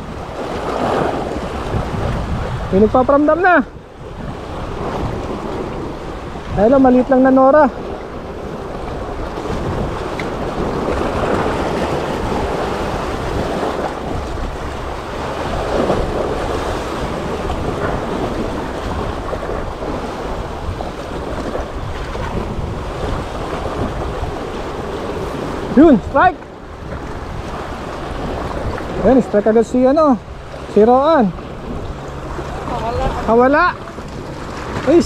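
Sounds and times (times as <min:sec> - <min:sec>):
choppy sea waves: 0:00.0 - 0:35.0
wind buffeting microphone: 0:00.0 - 0:35.0.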